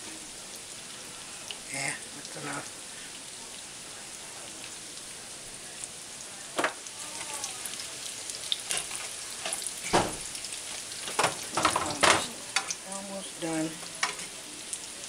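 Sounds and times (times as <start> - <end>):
zucchini sizzling in oil: 0.0 - 15.0.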